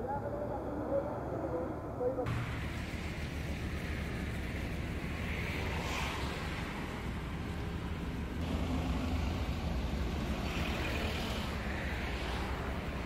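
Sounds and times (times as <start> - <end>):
road traffic rumble: 0.0 - 13.0
vehicle engine hum approaching: 0.0 - 13.0.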